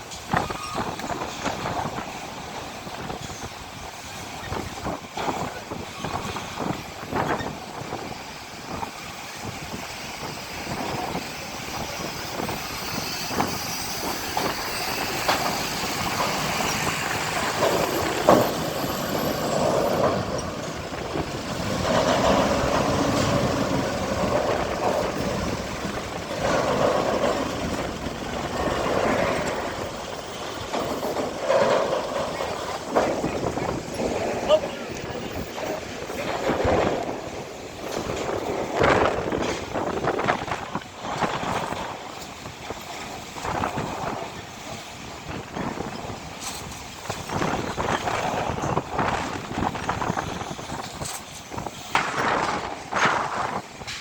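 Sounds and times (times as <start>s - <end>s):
diesel trucks passing: 0.0s - 54.0s
wind buffeting microphone: 0.0s - 54.0s.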